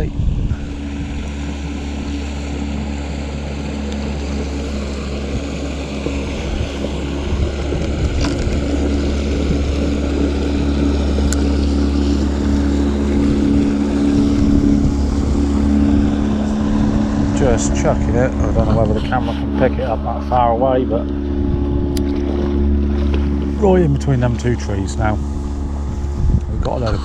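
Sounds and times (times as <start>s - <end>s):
motorboat engine humming: 0.0s - 27.0s.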